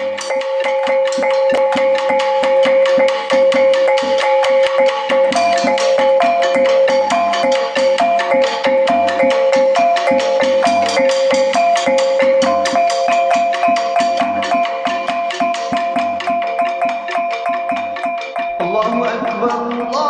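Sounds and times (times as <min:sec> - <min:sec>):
mallet-like melody: 0:00.0 - 0:20.0
steady beat: 0:00.0 - 0:20.0.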